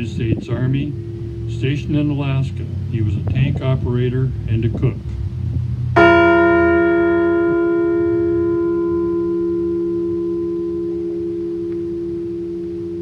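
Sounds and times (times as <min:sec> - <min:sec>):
large bell ringing: 0:00.0 - 0:13.0.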